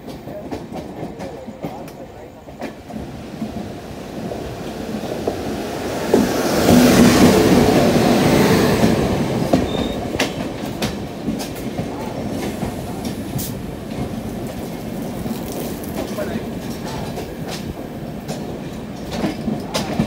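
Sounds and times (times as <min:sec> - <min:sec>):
electric locomotive passing: 0:00.0 - 0:20.0
wheels clacking over rail joints: 0:00.0 - 0:20.0.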